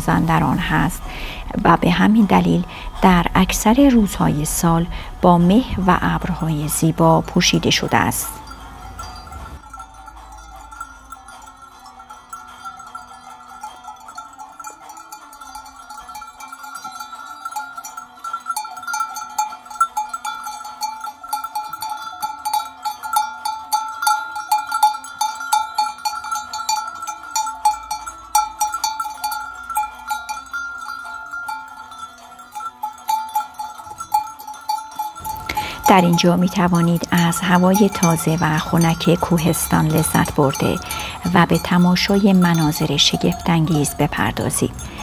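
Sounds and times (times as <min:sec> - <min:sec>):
metal bells clanking: 0:00.0 - 0:45.0.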